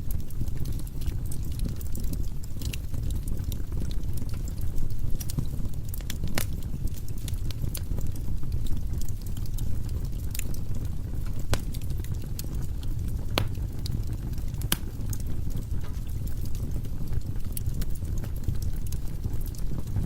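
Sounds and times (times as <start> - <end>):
fire flames rumbling: 0.0 - 20.0
firewood crackling and popping: 0.0 - 20.0.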